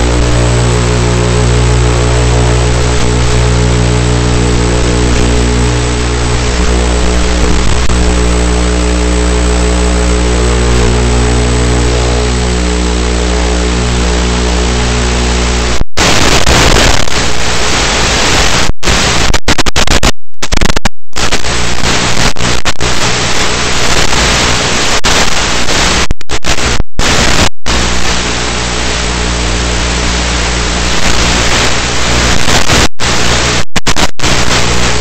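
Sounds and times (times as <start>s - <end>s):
wind and static hiss: 0.0s - 35.0s.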